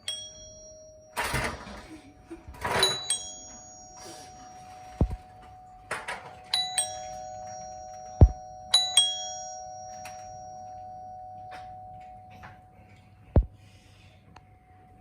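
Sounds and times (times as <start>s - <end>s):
doorbell chiming: 0.0s - 13.5s.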